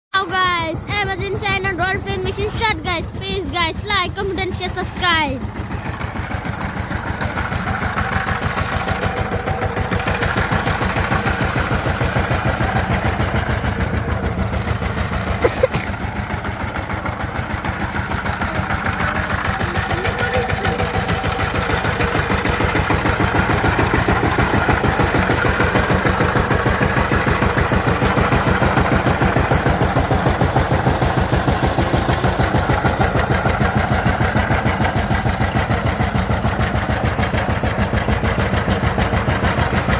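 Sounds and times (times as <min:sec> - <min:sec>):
diesel engine running: 0:00.2 - 0:39.9.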